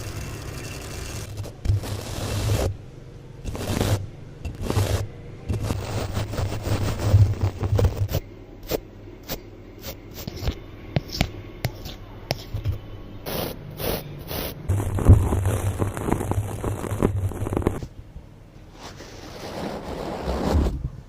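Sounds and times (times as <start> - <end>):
steady low hum: 0.0 - 21.0
brushing and scratching strokes: 1.2 - 2.7, 3.5 - 17.8, 18.7 - 20.8.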